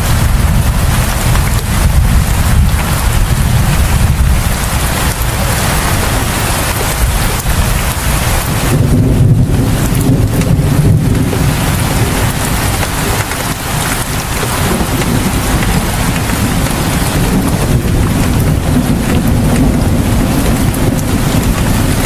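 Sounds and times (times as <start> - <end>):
heavy rain falling: 0.0 - 22.0
low rumble: 0.0 - 22.0.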